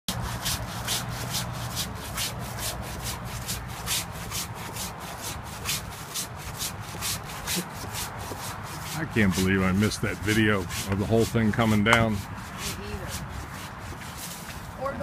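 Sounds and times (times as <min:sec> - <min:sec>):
hand saw rasping through wood: 0:00.1 - 0:15.0.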